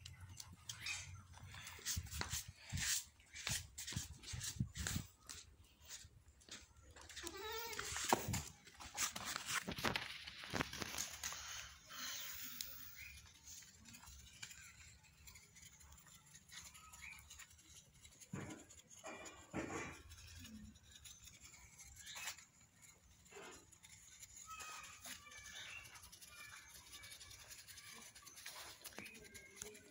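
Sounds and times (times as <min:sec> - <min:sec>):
goats licking and nibbling feed: 0:00.0 - 0:29.9.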